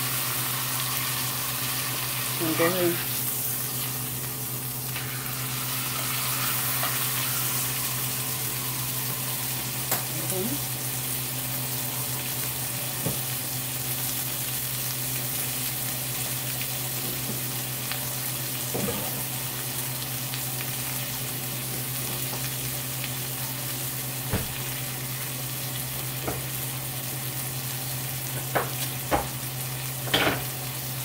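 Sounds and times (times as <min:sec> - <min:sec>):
meat sizzling in a skillet: 0:00.0 - 0:31.0.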